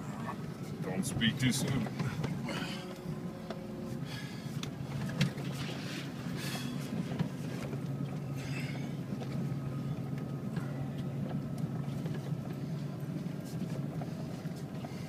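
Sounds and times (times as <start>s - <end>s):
truck engine under load: 0.0s - 15.0s.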